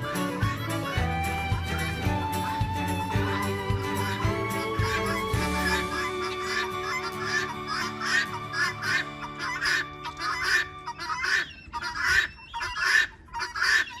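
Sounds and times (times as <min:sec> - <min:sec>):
background music: 0:00.0 - 0:11.5
poultry honking calls: 0:00.0 - 0:14.0.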